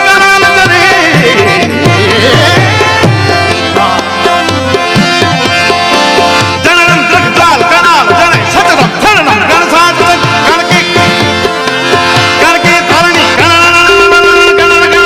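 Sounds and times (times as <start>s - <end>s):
held melodic notes: 0.0s - 15.0s
tabla playing a rhythm: 0.0s - 15.0s.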